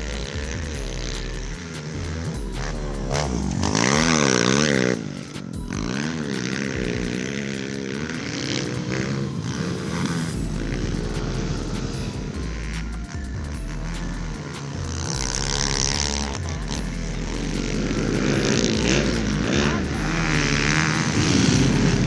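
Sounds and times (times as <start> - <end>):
pit bike engines revving: 0.0 - 22.0.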